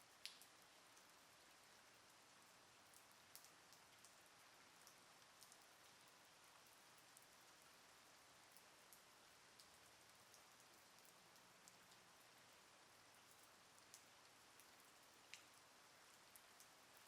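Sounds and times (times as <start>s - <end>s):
faint steady rain: 0.0s - 17.0s.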